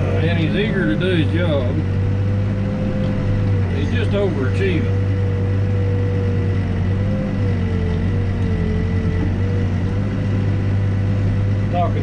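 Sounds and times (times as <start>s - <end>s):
diesel engine running: 0.0s - 12.0s
wavering whine: 0.0s - 12.0s.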